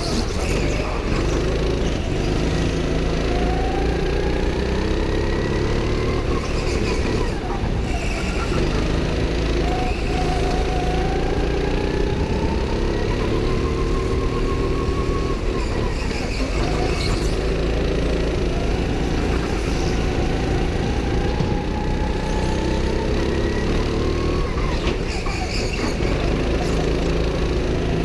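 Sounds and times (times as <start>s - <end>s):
go-kart engine revving: 0.0s - 28.0s.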